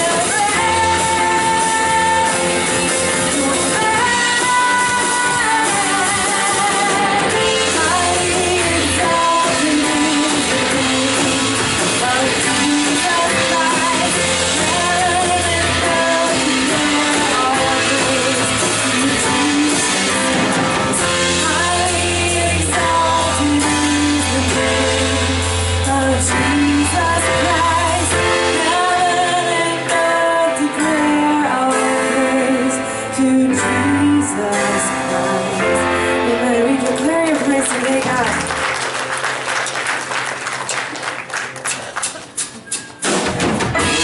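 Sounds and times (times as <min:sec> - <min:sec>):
person singing: 0:00.0 - 0:38.6
guitar: 0:00.0 - 0:44.0
worship band playing: 0:00.0 - 0:44.0.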